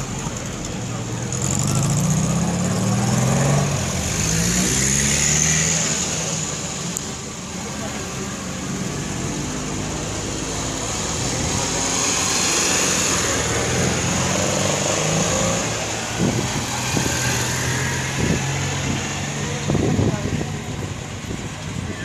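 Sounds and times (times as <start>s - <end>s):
small cars driving slowly past: 0.0s - 22.0s.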